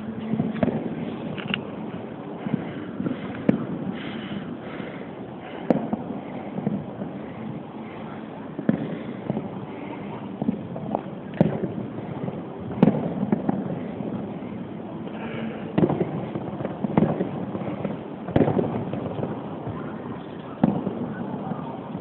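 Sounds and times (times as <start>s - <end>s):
continuous background noise: 0.0s - 22.0s
fireworks bangs: 0.0s - 22.0s.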